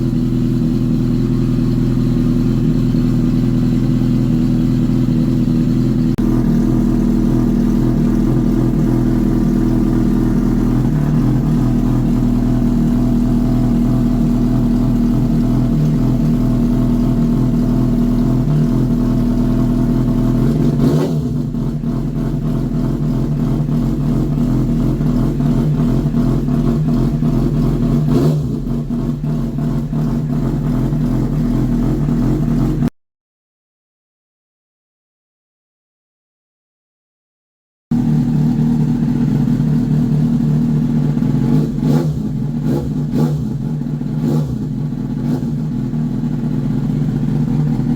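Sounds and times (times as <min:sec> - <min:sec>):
motorcycle engine idling: 0:00.0 - 0:32.9, 0:37.9 - 0:47.9
motorcycle throttle blips: 0:00.0 - 0:32.9, 0:37.9 - 0:47.9.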